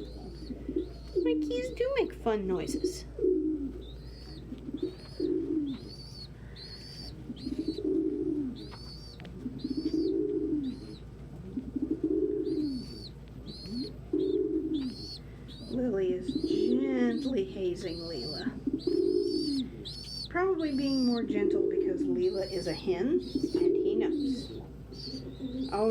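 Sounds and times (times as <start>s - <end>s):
squab peeping: 0.0s - 11.1s, 11.7s - 25.9s
pigeons cooing: 0.0s - 25.9s.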